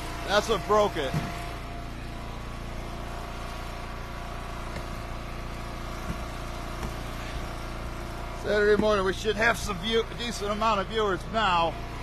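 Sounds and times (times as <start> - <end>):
log splitter engine running: 0.0 - 12.0.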